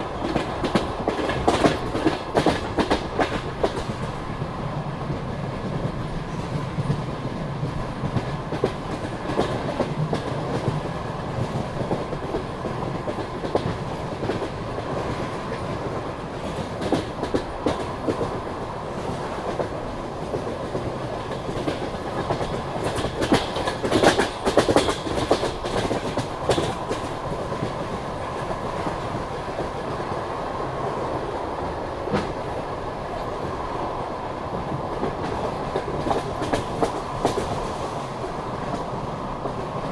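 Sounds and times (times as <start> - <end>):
train wheels clattering: 0.0 - 4.4, 5.1 - 30.2, 34.6 - 39.9
train rolling rumble: 0.0 - 39.9.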